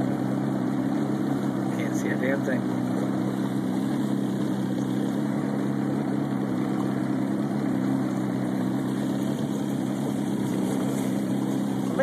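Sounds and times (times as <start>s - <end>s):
motorboat engine droning: 0.0s - 12.0s.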